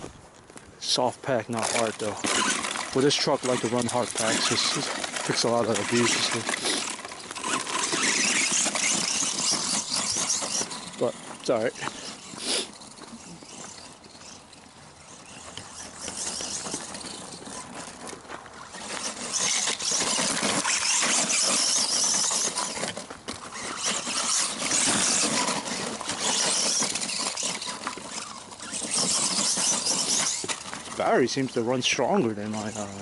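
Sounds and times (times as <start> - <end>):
tyres hissing on frozen dirt: 0.0 - 33.0
rc truck motor whine: 1.5 - 33.0.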